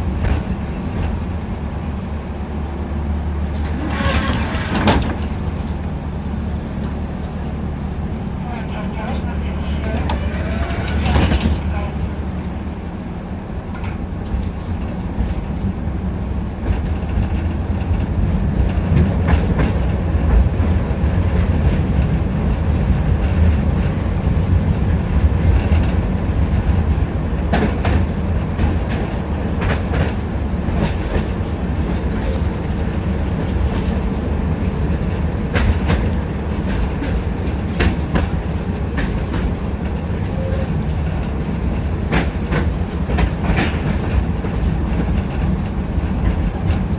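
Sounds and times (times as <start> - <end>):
tram rumbling: 0.0 - 46.9
wheels clicking over rail joints: 3.4 - 46.9.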